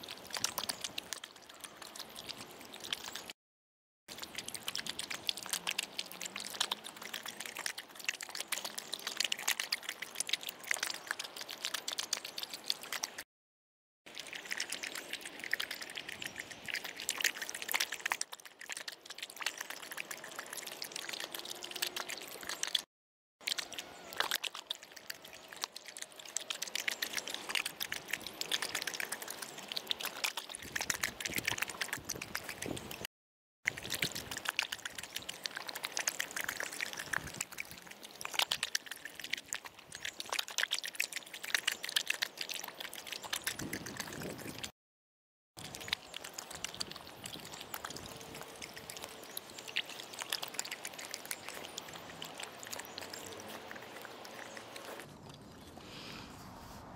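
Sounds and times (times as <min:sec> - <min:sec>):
dog lapping water: 0:00.0 - 0:03.4, 0:04.1 - 0:13.2, 0:14.1 - 0:33.1, 0:33.7 - 0:44.7, 0:45.6 - 0:55.4
water splashing and dripping: 0:00.0 - 0:03.4, 0:04.1 - 0:13.2, 0:14.1 - 0:33.1, 0:33.7 - 0:44.7, 0:45.6 - 0:55.5.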